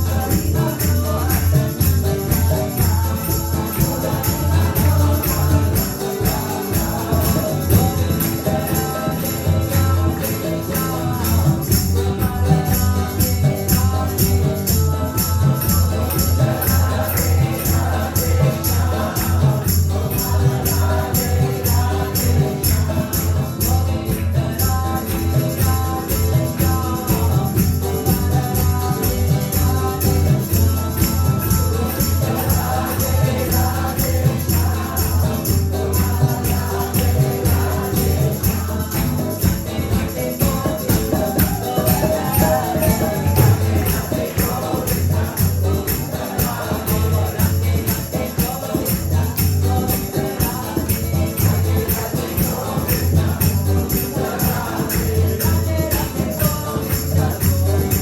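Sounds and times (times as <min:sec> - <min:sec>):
group singing call-and-response chant: 0:00.0 - 0:58.0
jingling percussion beat: 0:00.0 - 0:58.0.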